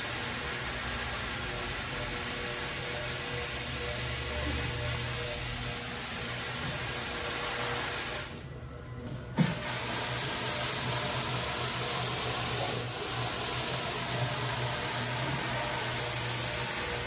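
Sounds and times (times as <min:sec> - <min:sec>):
floor machine motor hum: 0:00.0 - 0:17.0.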